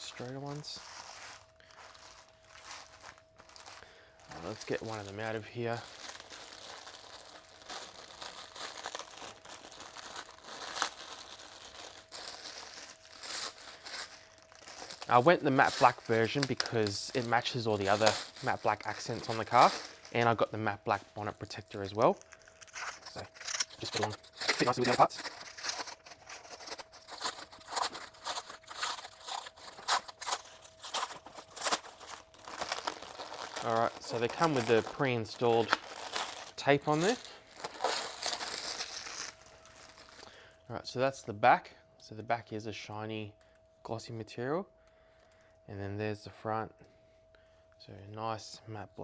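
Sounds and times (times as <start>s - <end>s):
plastic wrap crinkling: 0.0s - 40.4s.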